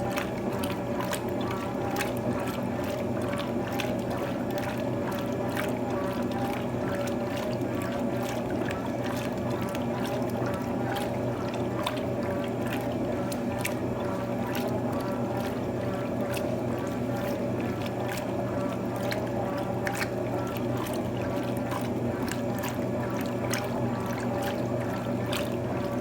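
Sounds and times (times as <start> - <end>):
washing machine motor hum: 0.0 - 26.0
water sloshing in drum: 0.0 - 26.0.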